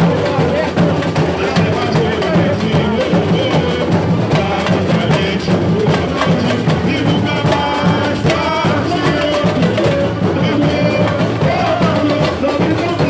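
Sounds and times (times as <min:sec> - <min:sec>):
samba drum band playing: 0:00.0 - 0:13.0
melody line over drums: 0:02.3 - 0:13.0.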